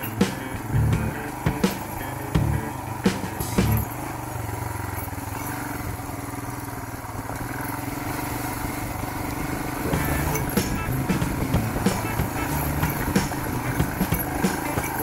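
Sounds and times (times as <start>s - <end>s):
motorcycle engine running: 0.0s - 15.0s
motorcycle rolling through mud: 0.0s - 15.0s.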